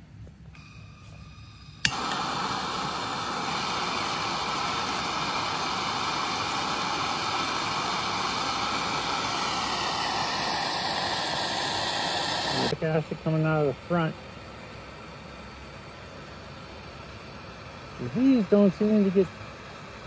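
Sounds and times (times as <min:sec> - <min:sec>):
gas torch hissing: 0:00.5 - 0:20.0.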